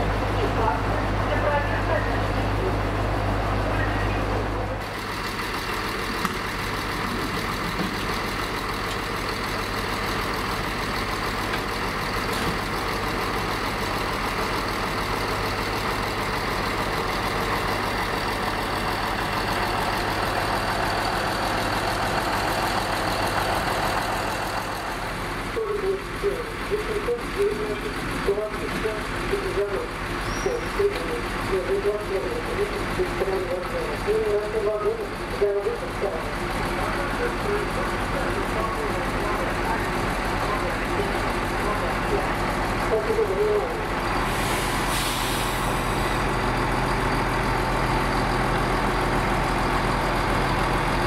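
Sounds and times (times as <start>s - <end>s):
diesel railbus engine idling: 0.0s - 51.0s.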